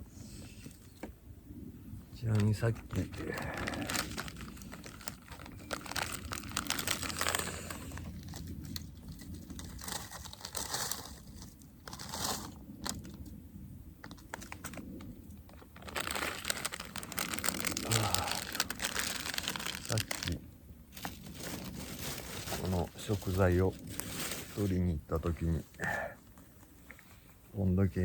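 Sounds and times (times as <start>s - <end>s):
plastic bag crinkling: 2.2s - 13.2s, 14.0s - 26.7s.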